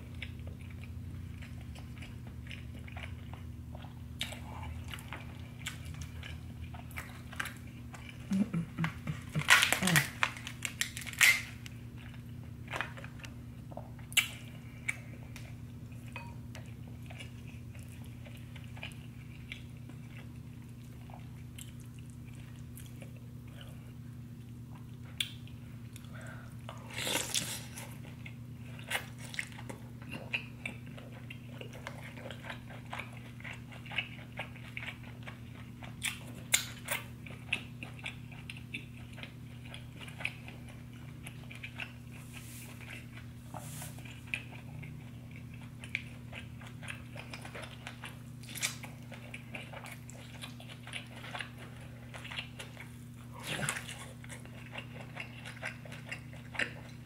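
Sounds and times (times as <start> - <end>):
close chewing and biting: 0.1 - 57.0.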